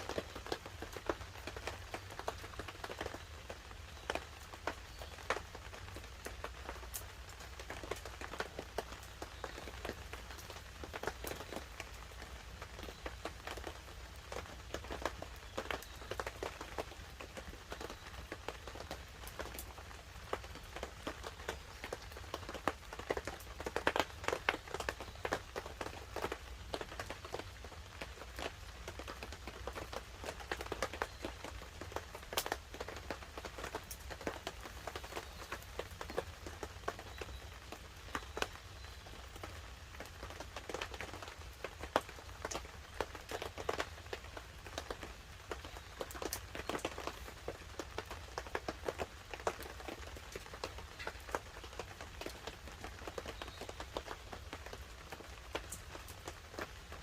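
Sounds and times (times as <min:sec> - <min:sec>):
campfire crackling and popping: 0:00.0 - 0:57.0
light rain on a tarp: 0:00.0 - 0:57.0.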